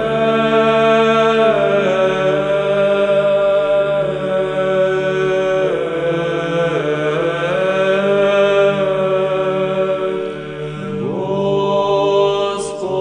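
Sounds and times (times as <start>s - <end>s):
male choir chanting: 0.0s - 13.0s.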